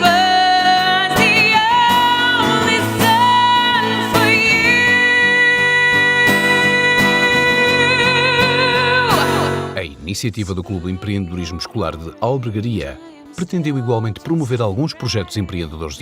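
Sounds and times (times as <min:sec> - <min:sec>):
acoustic guitar accompaniment: 0:00.0 - 0:16.0
person singing with vibrato: 0:00.0 - 0:16.0.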